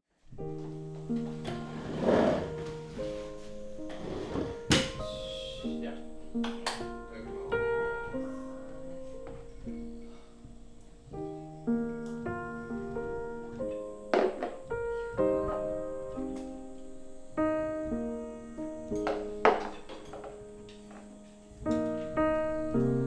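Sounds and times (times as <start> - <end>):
slow piano music: 0.2 - 23.0.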